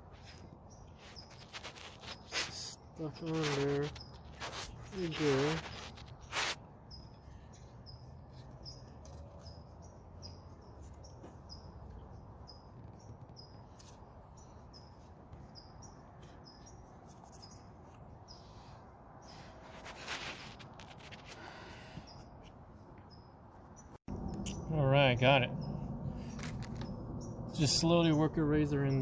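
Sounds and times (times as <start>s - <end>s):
small bird chirping: 0.2s - 21.3s, 23.0s - 29.0s.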